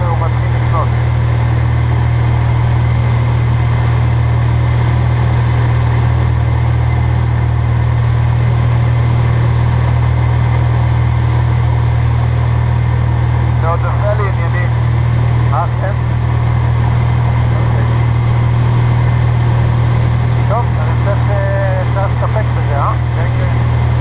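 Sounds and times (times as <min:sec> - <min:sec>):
light aircraft engine humming: 0:00.0 - 0:24.0.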